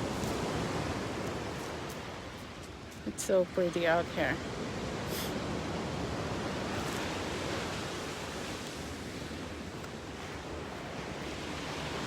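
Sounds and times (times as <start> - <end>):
ocean surf washing on shore: 0.0 - 12.0
wind: 0.0 - 12.0.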